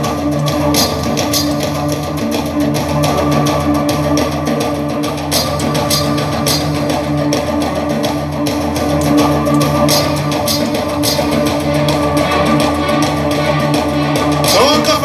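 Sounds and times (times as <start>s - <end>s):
percussion beat: 0.0s - 15.0s.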